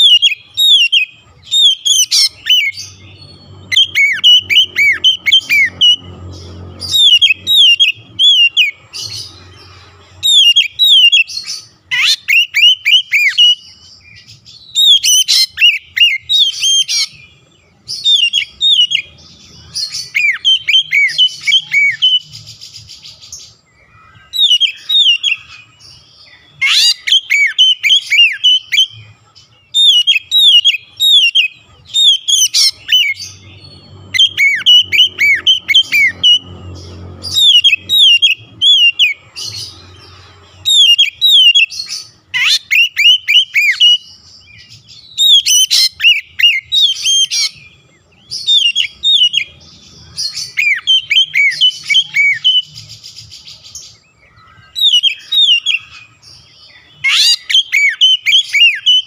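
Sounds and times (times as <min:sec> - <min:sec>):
bird singing whistled notes: 0:00.0 - 0:59.0.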